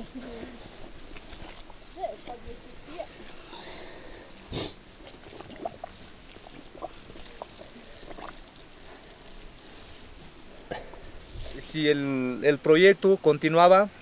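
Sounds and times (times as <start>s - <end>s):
dye bath bubbling: 0.0s - 12.3s.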